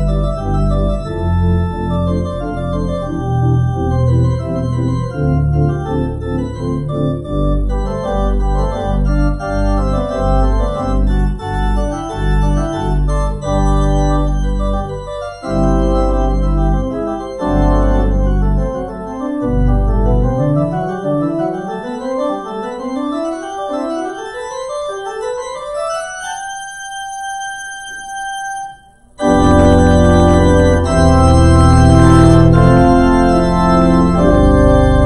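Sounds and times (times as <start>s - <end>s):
deep organ pedal bass: 0.0s - 24.1s, 29.2s - 35.0s
organ chords: 0.0s - 35.0s.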